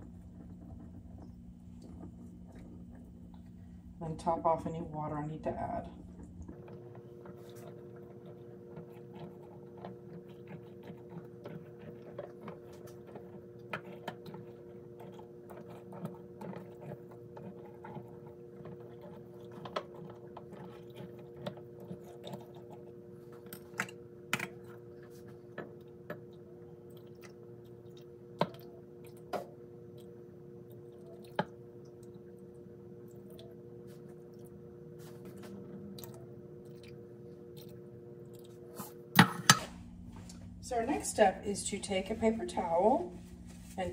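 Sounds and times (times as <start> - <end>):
steady hum: 0.0 - 17.5, 21.5 - 43.9.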